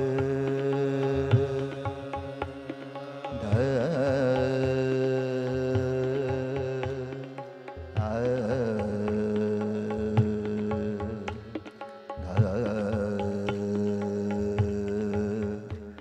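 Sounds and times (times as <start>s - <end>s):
sustained harmonium: 0.0s - 16.0s.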